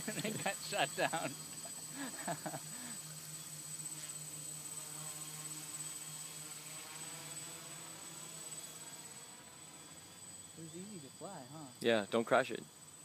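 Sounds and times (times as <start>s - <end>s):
drone propellers buzzing: 0.0s - 11.8s.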